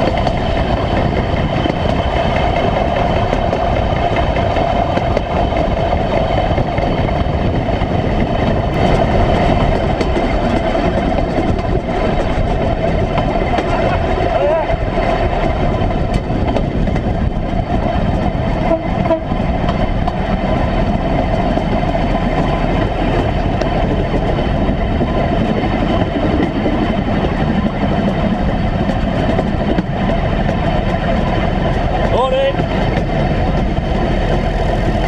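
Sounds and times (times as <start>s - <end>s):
steel wheels rumbling on rails: 0.0s - 35.0s.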